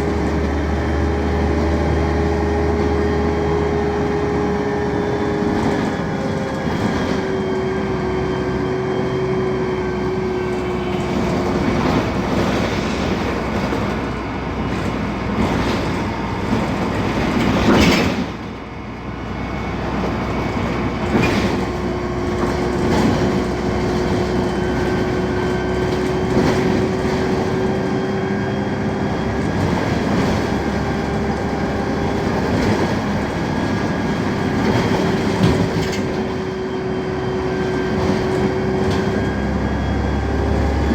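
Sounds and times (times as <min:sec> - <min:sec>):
bus engine whine: 0:00.0 - 0:40.9.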